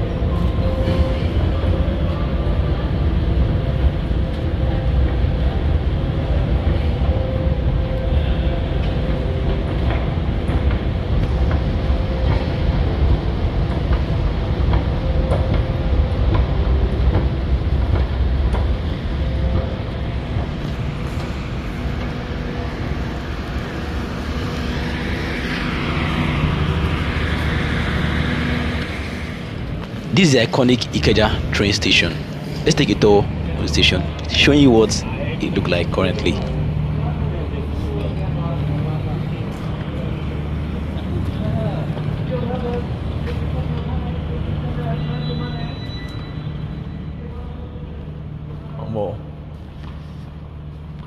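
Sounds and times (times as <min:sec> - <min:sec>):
faint whine: 0:00.0 - 0:51.0
steady low rumble: 0:00.0 - 0:51.0.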